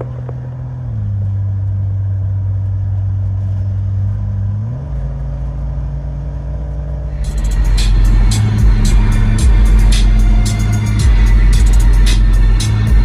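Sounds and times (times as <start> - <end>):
engine and road drone in car cabin: 0.0 - 13.0.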